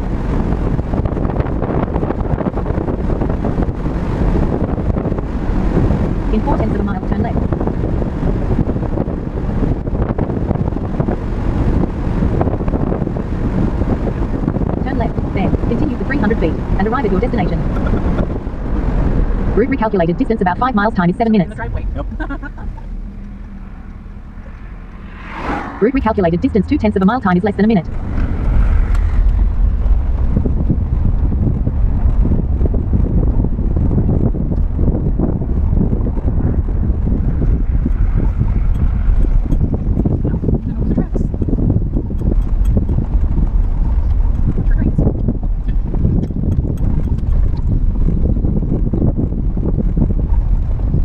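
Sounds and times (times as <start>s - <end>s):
car road and wind noise: 0.0s - 51.0s.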